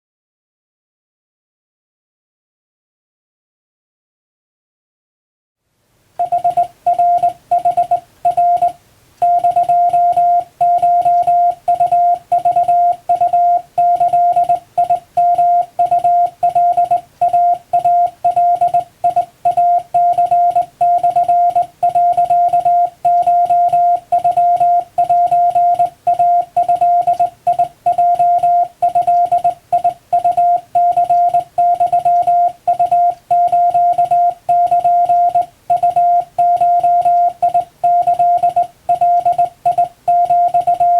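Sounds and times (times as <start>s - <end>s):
morse code beeps: 6.2s - 40.9s.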